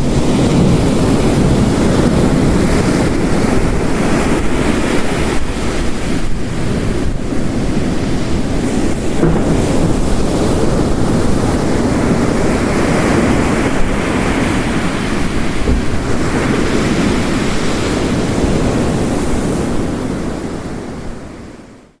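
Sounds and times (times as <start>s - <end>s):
heavy rain: 0.0s - 21.2s
ocean waves crashing: 0.0s - 21.7s.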